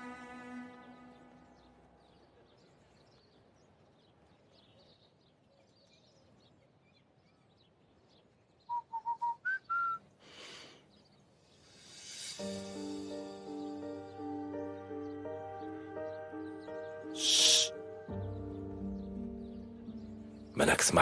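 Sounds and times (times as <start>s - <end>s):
faint bird chirps: 0.0s - 20.7s.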